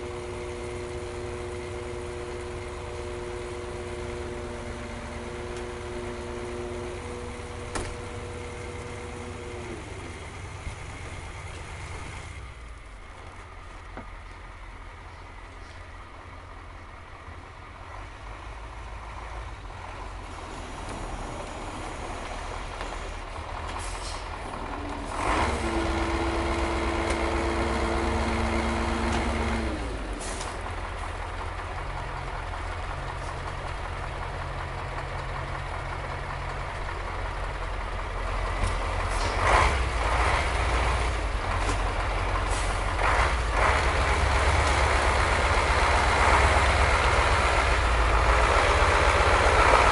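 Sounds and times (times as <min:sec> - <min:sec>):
garbage truck engine whining: 0:00.0 - 0:49.9.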